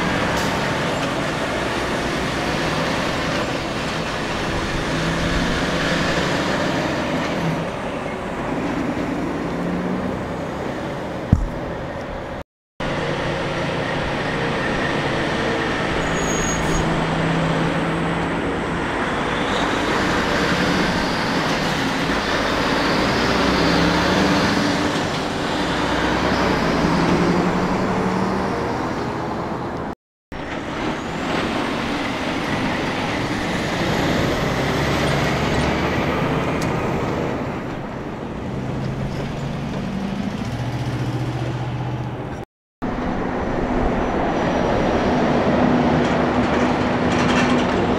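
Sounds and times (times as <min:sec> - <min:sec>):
diesel trucks passing: 0:00.0 - 0:47.9
tyre and road noise: 0:00.0 - 0:47.9.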